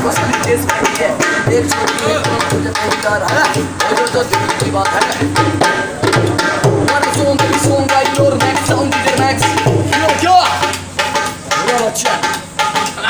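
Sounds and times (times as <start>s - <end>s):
hand drum rhythm: 0.0s - 13.0s.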